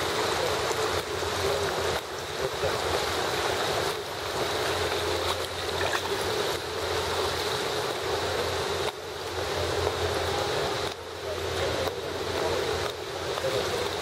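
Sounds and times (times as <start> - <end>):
pool water washing: 0.0 - 14.0.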